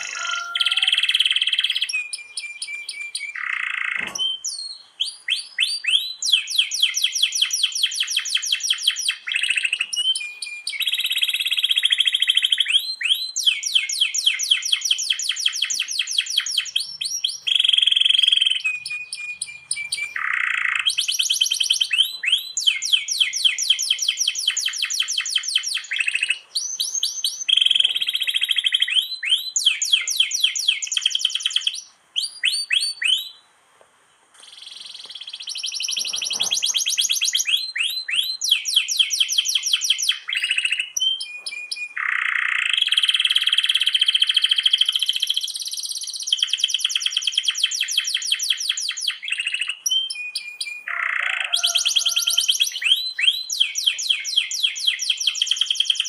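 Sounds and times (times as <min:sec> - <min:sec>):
canary singing trills: 0:00.0 - 0:33.5, 0:34.4 - 0:56.0.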